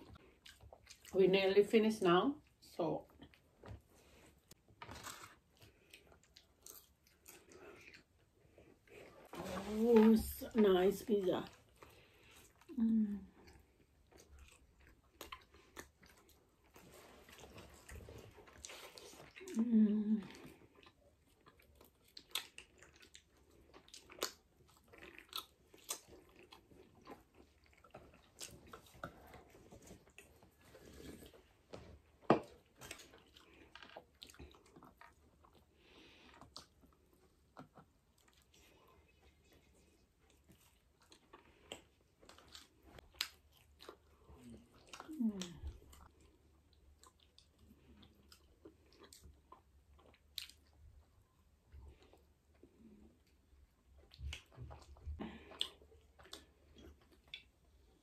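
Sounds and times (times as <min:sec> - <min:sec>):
biting and chewing pizza: 0:03.2 - 0:10.0, 0:11.5 - 0:58.0.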